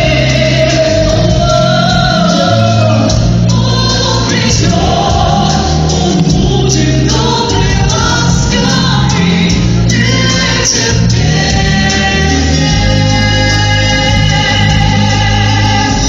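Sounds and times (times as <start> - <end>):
steady bass line: 0.0 - 16.0.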